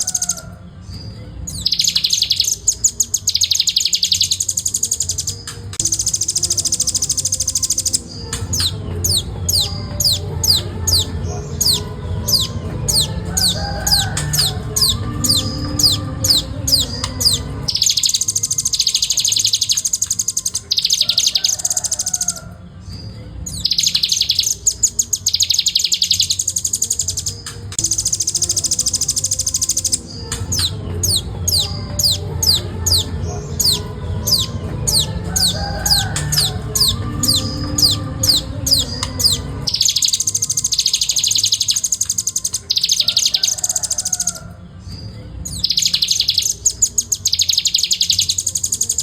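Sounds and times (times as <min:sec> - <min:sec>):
bird trilling: 0:00.0 - 0:44.6, 0:45.4 - 0:49.0.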